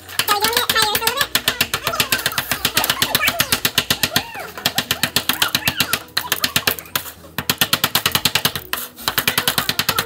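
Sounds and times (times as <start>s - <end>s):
plastic tool scraping plaster: 0.0s - 10.0s.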